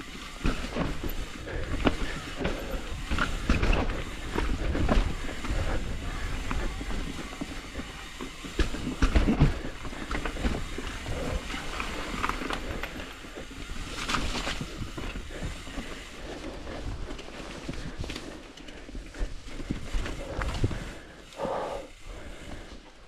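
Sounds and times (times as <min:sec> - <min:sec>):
bike chain and frame rattling: 0:00.0 - 0:23.0
bike tyres crunching on dirt: 0:00.0 - 0:23.0.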